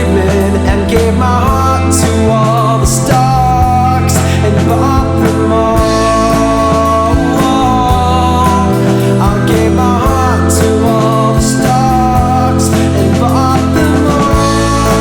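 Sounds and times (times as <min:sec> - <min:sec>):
psychedelic rock song: 0:00.0 - 0:15.0.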